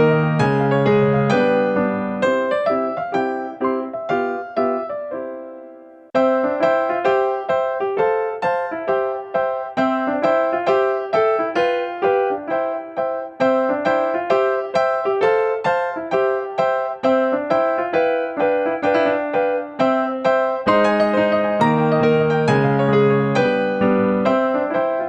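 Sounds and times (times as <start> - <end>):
electric piano melody: 0.0 - 25.0.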